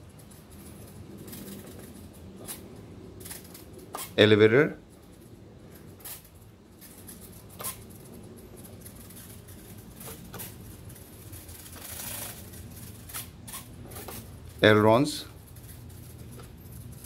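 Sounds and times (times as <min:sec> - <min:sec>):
clicks and scratches of handling: 0:00.0 - 0:17.0
low steady background: 0:00.0 - 0:17.0.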